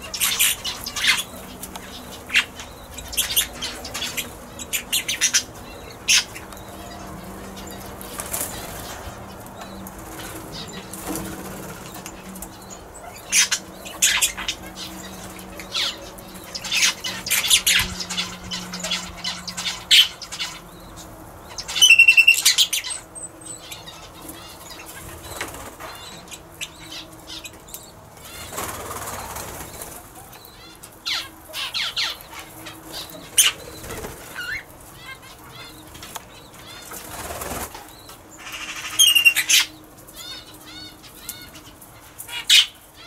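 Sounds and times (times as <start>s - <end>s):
wing flutters and rustling: 0.0s - 22.6s, 23.8s - 43.0s
parrots chirping: 0.0s - 43.0s.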